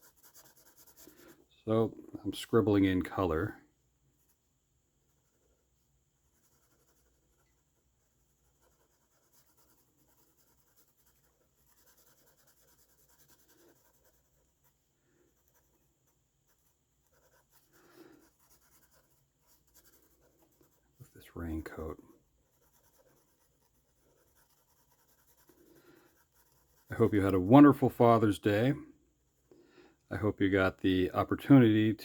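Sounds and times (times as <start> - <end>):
faint scratching on paper: 0.0 - 29.5.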